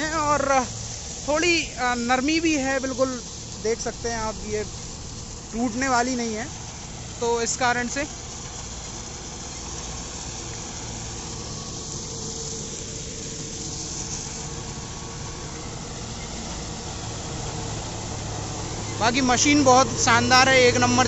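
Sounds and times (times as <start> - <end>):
reaper steady hiss: 0.0 - 21.0
tractor engine running under load: 0.0 - 21.0.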